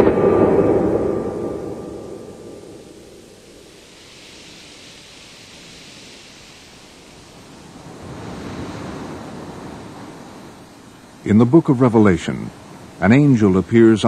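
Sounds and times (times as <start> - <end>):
surf washing against rocks: 0.6 - 14.0.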